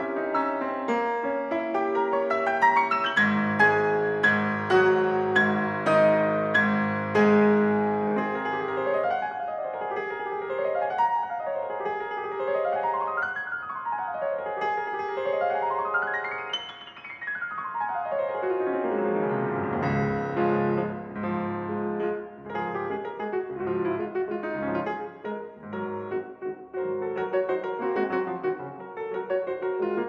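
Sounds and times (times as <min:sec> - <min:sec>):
solo piano arpeggios and chords: 0:00.0 - 0:30.0.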